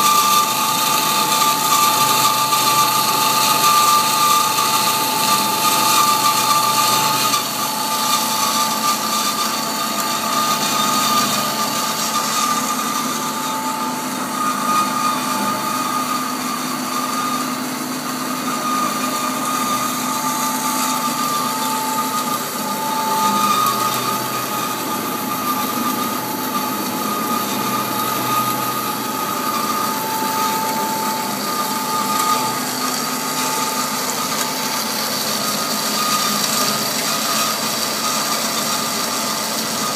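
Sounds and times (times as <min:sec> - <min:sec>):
lower machine tone: 0:00.0 - 0:38.2
bandsaw whine: 0:00.0 - 0:39.9.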